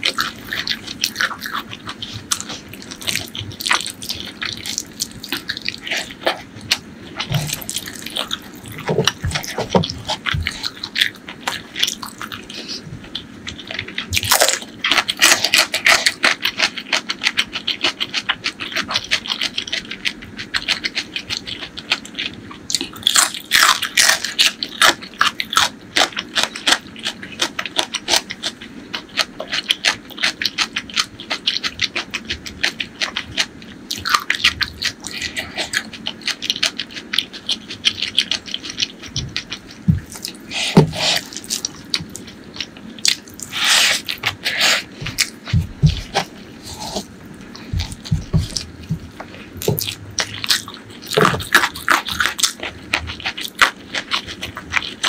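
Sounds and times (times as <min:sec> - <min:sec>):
person chewing with mouth clicks: 0:00.0 - 0:55.0.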